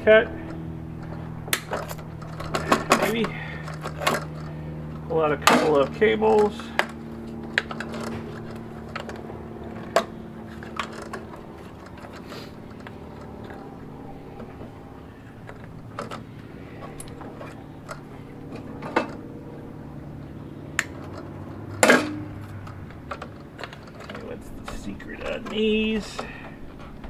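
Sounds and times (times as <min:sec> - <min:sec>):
cables rustling: 0:00.0 - 0:05.2, 0:05.8 - 0:27.0
low steady hum: 0:00.0 - 0:27.0
connectors clicking: 0:00.3 - 0:27.0.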